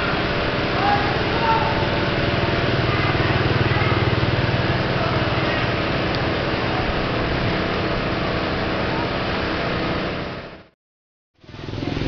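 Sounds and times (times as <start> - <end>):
small engine droning: 0.0 - 10.8, 11.4 - 12.0.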